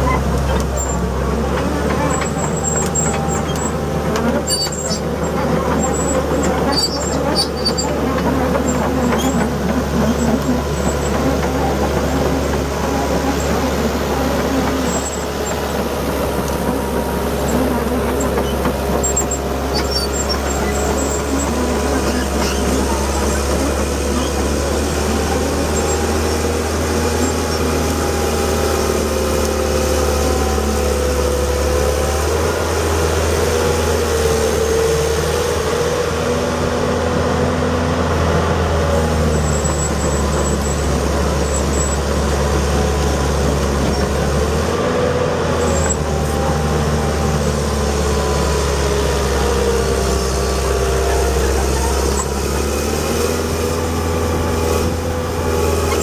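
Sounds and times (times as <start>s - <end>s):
diesel engine humming: 0.0s - 56.0s
wavering engine whine: 0.0s - 56.0s.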